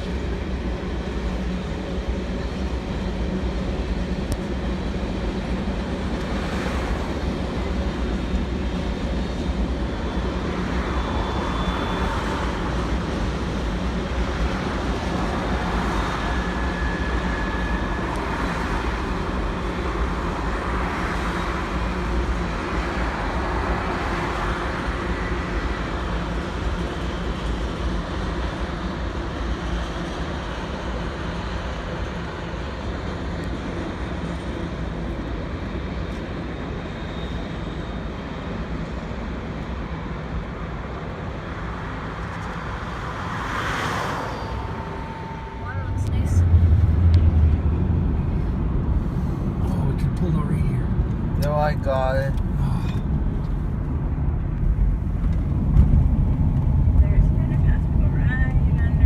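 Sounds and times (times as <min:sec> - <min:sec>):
constant low hum: 0:00.0 - 0:59.0
moving vehicle rumble: 0:00.0 - 0:59.0.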